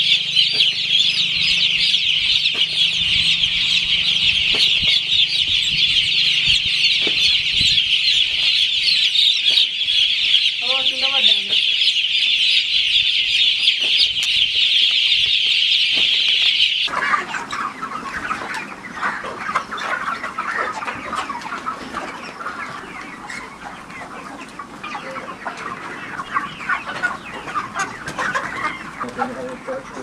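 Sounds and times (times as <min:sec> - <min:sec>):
chickens peeping and clucking: 0:00.0 - 0:30.0.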